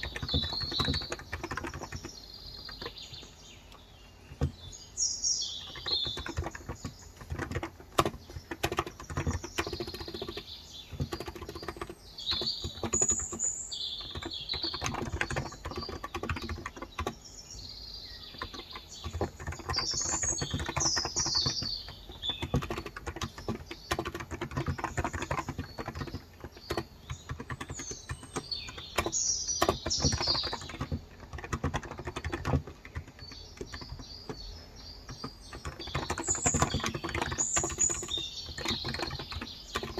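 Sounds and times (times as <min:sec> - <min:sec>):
fast keyboard typing: 0:00.0 - 0:17.4, 0:18.0 - 0:39.9
small birds chirping: 0:00.0 - 0:39.9.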